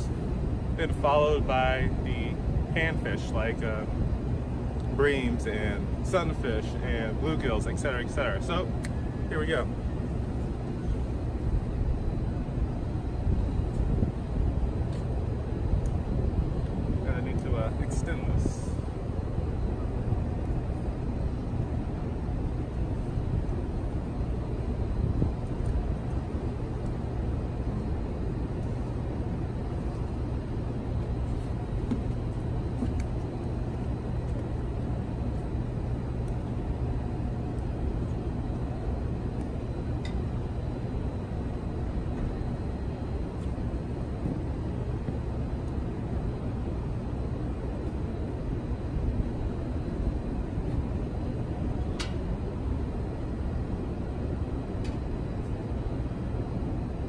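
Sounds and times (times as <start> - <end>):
distant traffic rumble: 0.0 - 57.0
even hum: 0.0 - 57.0.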